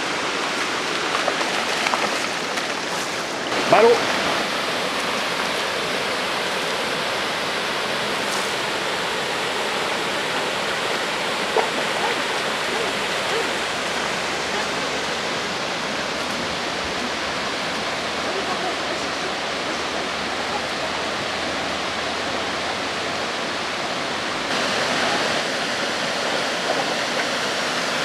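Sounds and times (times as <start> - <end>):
river flowing over stones: 0.0 - 28.0.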